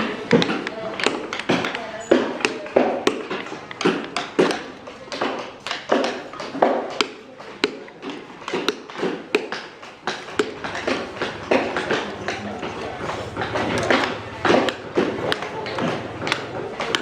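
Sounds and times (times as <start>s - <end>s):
mallets tapping on chisels: 0.0s - 17.0s.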